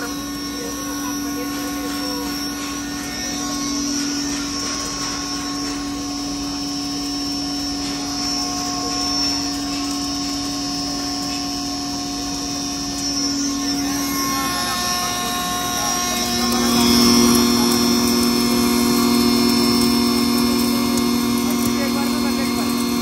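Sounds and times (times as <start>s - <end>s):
flour grinder humming with whine: 0.0s - 23.0s.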